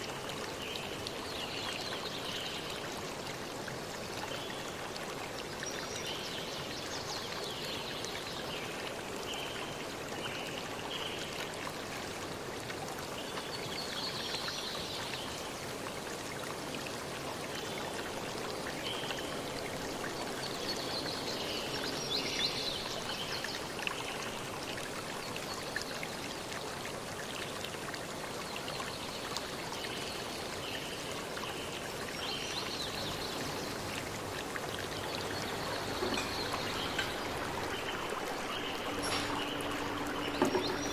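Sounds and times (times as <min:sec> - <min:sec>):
running water stream: 0:00.0 - 0:40.9.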